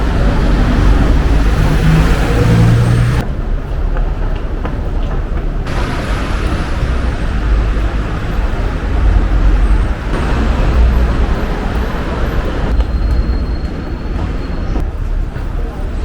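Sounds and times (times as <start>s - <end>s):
hissing road noise: 0.0s - 5.0s, 5.6s - 14.8s
traffic engine rumble: 0.0s - 16.0s.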